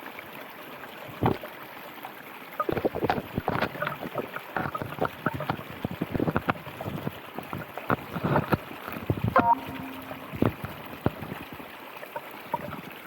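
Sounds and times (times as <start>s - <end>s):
water splashing and gurgling: 0.0s - 13.0s.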